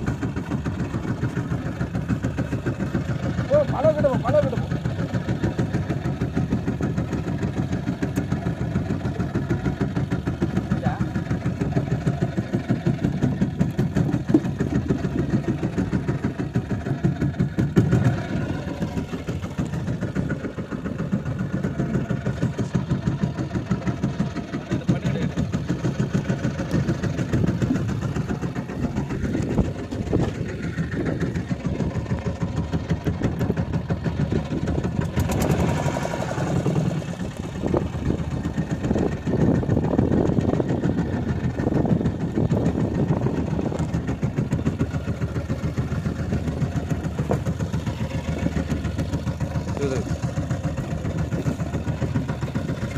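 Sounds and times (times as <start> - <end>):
boat engine running: 0.0 - 52.9.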